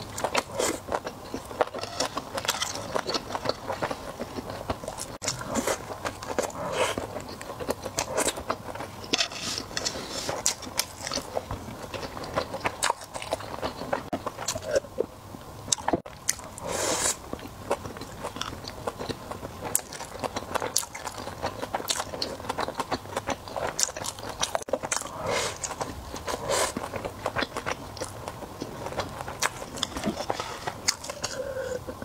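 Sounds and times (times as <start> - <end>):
person chewing sushi: 0.0 - 15.1, 15.7 - 32.0.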